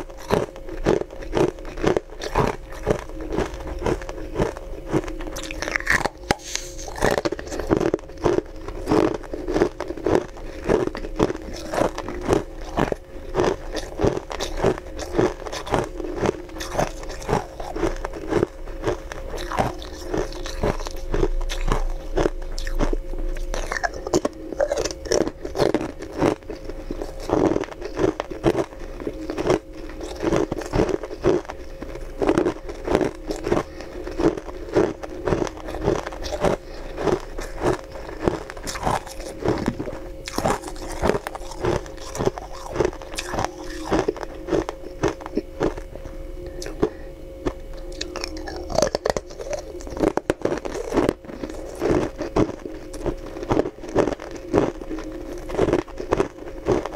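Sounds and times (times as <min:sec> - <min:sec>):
ice crunching between teeth: 0:00.0 - 0:56.9.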